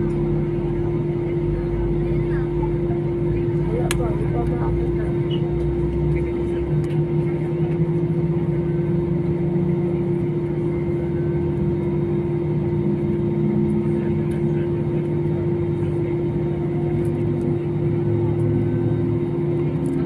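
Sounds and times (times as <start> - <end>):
airliner engine drone in cabin: 0.0 - 20.0.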